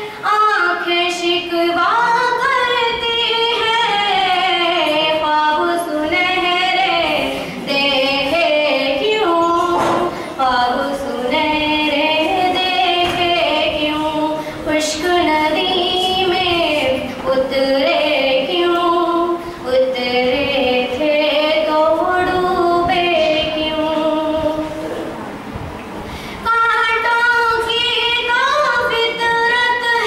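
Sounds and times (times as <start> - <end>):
woman singing unaccompanied: 0.0 - 24.9, 26.4 - 30.0.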